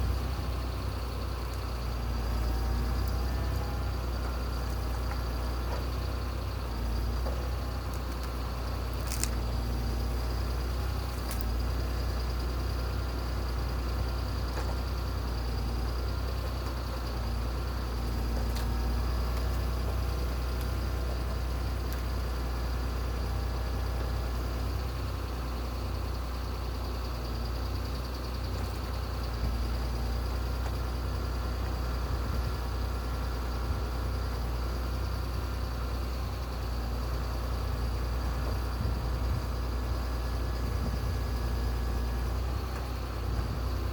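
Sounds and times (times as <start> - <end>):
engine rumbling steadily: 0.0 - 43.9.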